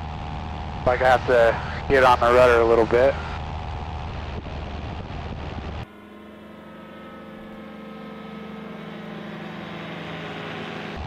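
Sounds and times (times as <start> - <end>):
light aircraft engine: 0.0 - 11.0.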